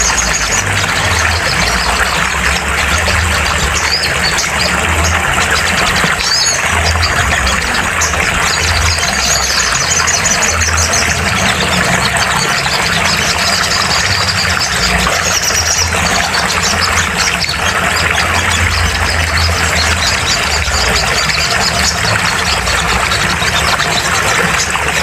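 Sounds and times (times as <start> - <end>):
bird chirps and trills: 0.0 - 25.0.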